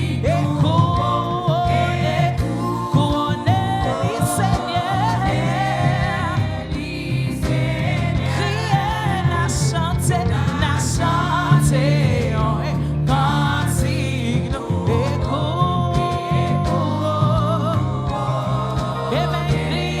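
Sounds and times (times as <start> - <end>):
bass: 0.0 - 20.0
voices singing gospel: 0.0 - 20.0.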